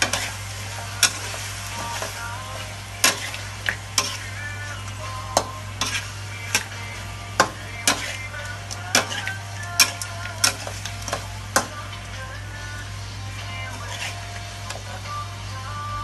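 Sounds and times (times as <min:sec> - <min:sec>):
spatula scraping and striking wok: 0:00.0 - 0:12.1, 0:12.7 - 0:15.1
low sizzle: 0:00.0 - 0:16.0.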